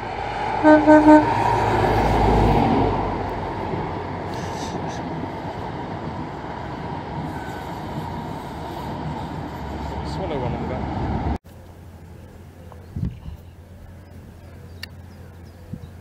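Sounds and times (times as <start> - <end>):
diesel train passing: 0.0 - 16.0
train coaches rolling rumble: 0.0 - 16.0.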